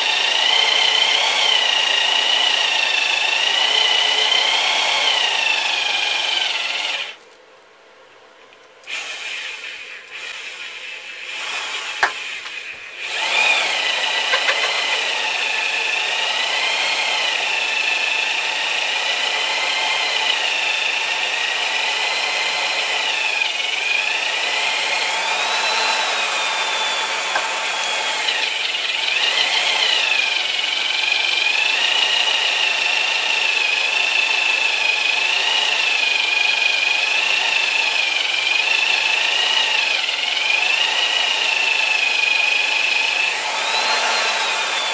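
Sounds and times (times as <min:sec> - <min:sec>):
electric drill cutting metal: 0:00.0 - 0:07.2, 0:08.9 - 0:44.9.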